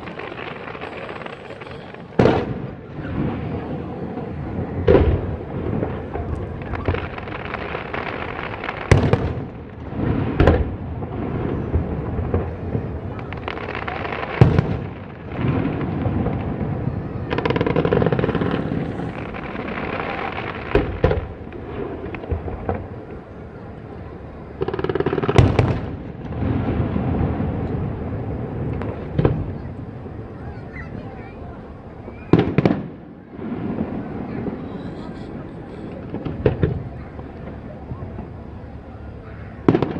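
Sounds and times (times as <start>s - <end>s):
fireworks crackling: 0.0s - 38.9s
fireworks rumbling: 0.0s - 39.9s.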